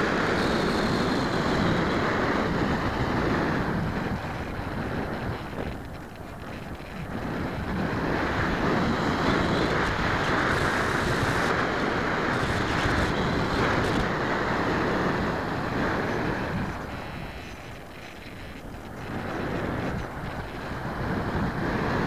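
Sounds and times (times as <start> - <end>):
airflow rushing over camera: 0.0 - 22.0.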